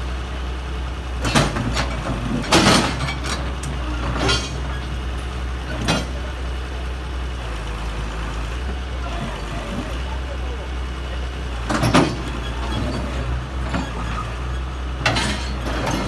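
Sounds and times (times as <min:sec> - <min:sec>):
heavy machinery engine rumbling: 0:00.0 - 0:16.0.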